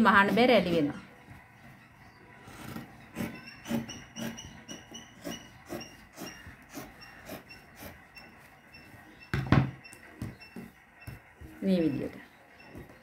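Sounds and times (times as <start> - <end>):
blades clicking and squeaking: 0.0 - 13.0.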